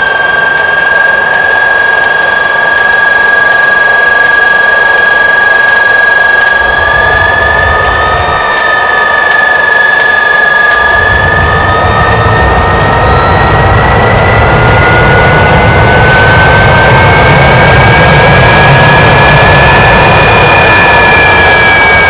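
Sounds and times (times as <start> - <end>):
turbojet engine roaring: 0.0 - 22.0.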